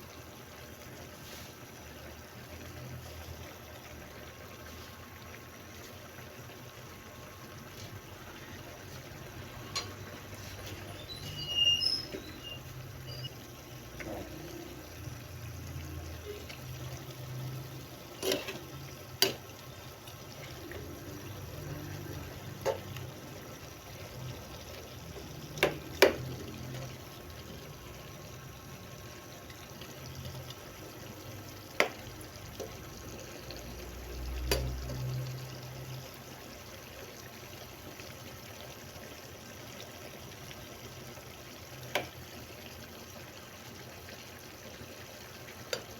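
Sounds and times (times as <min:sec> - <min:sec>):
steady liquid noise: 0:00.0 - 0:45.9.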